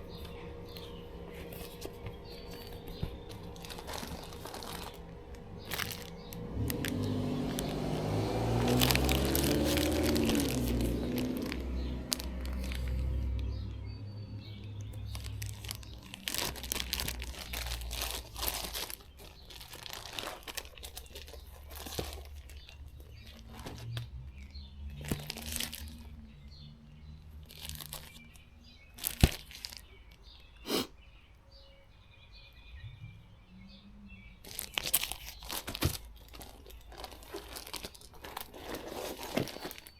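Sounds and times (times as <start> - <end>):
rustling and crinkling: 0.0 - 30.5, 34.4 - 39.9.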